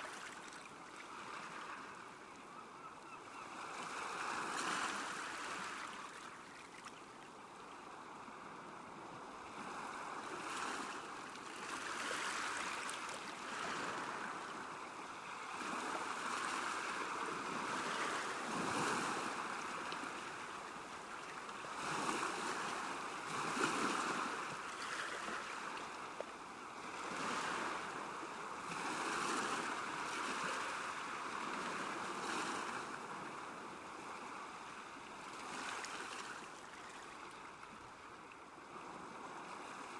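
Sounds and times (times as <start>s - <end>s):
small waves lapping at shore: 0.0s - 39.9s.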